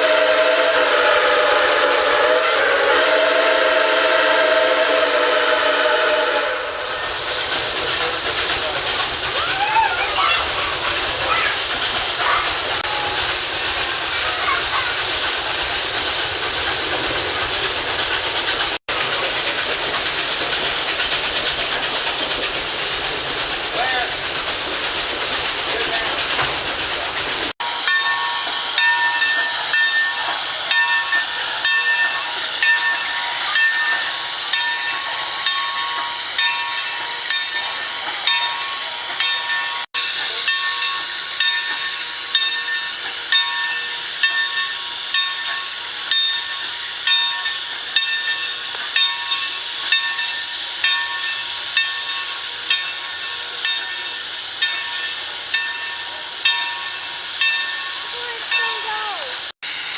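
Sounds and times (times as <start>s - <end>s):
steam locomotive chugging: 0.0s - 59.9s.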